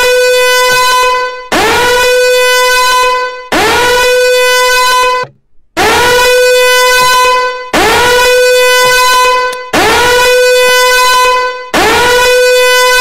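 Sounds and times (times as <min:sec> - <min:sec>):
timer alarm blasts: 0:00.0 - 0:13.0.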